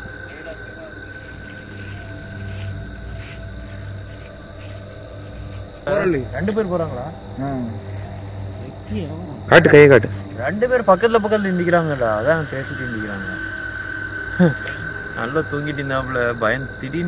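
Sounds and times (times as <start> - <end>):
high insect trilling: 0.0 - 17.0.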